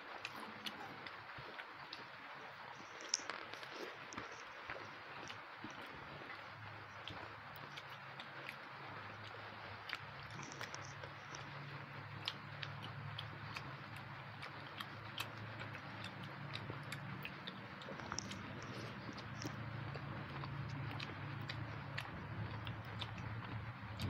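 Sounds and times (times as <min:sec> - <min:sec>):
chewing and lip smacks: 0:00.0 - 0:24.0
steady low hum: 0:00.0 - 0:24.0.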